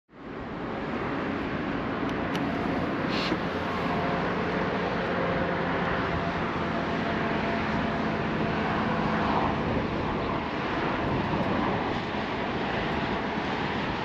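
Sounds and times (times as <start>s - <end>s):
wind noise: 0.4s - 14.0s.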